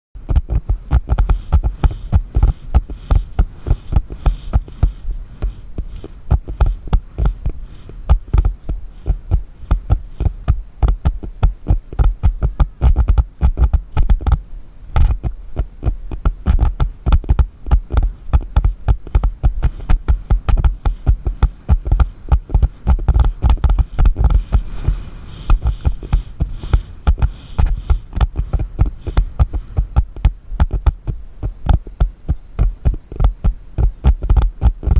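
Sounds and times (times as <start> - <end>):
horse hoofbeats on sand: 0.2 - 14.4, 15.0 - 34.9.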